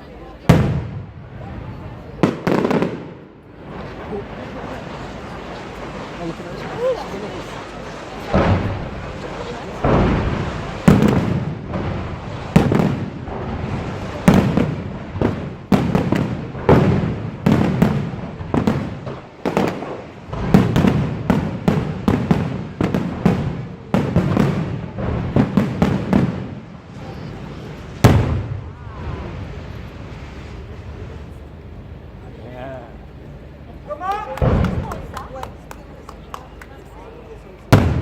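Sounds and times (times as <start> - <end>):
fireworks bursting: 0.4 - 32.3, 33.6 - 37.0, 37.6 - 38.0.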